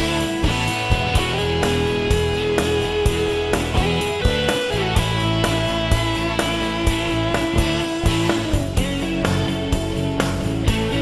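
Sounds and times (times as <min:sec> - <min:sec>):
rock music with guitar: 0:00.0 - 0:11.0.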